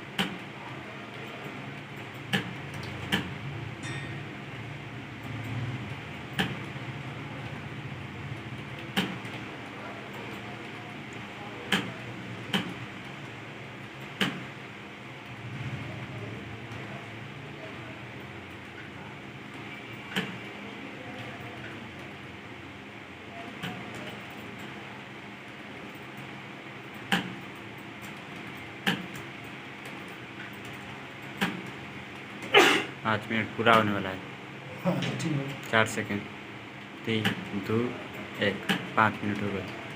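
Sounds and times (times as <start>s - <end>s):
steady room hum: 0.0s - 39.9s.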